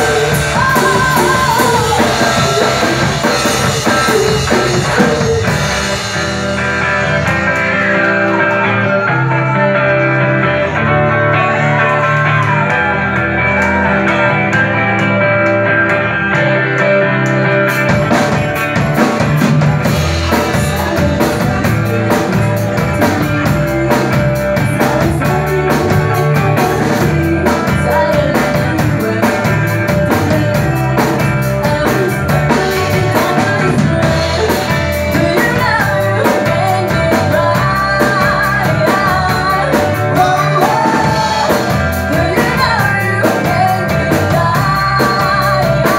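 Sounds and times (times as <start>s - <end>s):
drum kit with cymbals: 0.0s - 8.7s, 17.7s - 45.9s
electric guitar: 0.0s - 45.9s
person singing: 0.0s - 45.9s.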